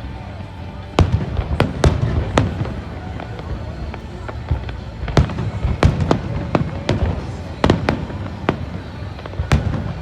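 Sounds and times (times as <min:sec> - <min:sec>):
distant explosions rumbling: 0:00.9 - 0:10.0
fireworks sharp bangs: 0:00.9 - 0:10.0.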